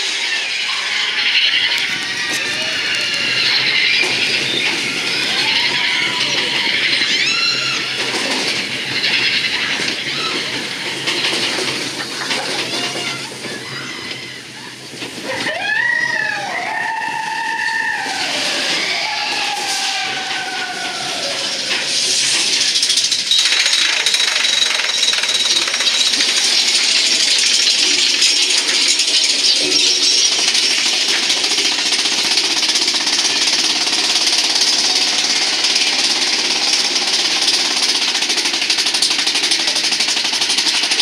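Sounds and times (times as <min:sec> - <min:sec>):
roller coaster rattling on track: 0:00.0 - 0:41.0.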